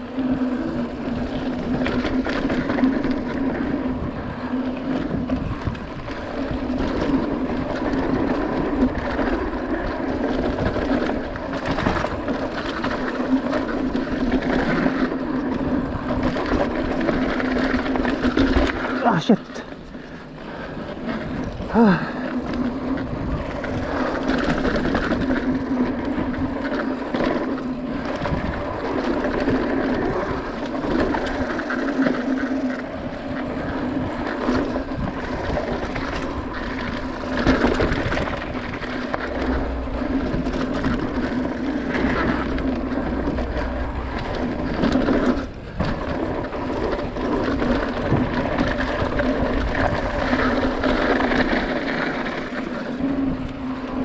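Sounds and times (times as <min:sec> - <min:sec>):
wind rushing over microphone: 0:00.0 - 0:18.8, 0:19.7 - 0:54.0
bike rattling over bumps: 0:00.0 - 0:54.0
tyres rumbling on dirt: 0:00.0 - 0:54.0.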